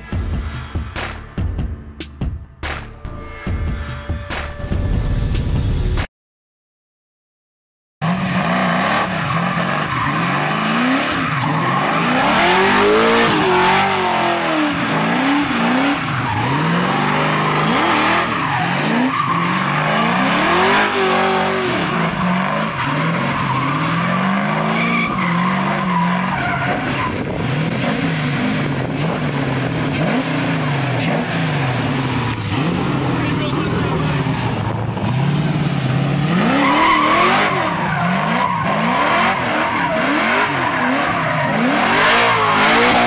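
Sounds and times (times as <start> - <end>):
tires squealing: 8.0 - 43.0
truck engine revving: 8.0 - 43.0.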